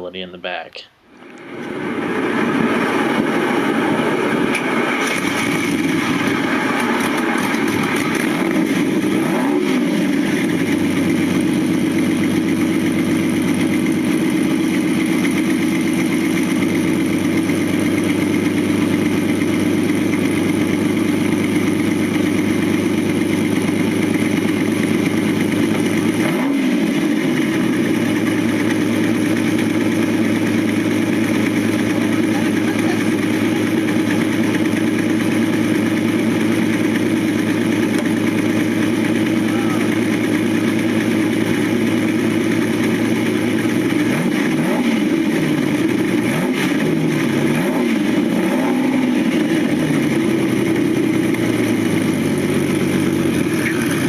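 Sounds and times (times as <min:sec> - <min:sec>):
car engine idling: 0:01.0 - 0:54.0.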